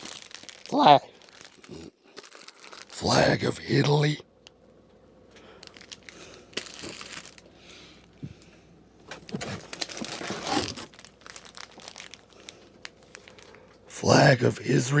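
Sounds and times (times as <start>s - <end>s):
plastic packaging crinkling: 0.0s - 4.1s, 5.3s - 8.2s, 9.1s - 14.2s.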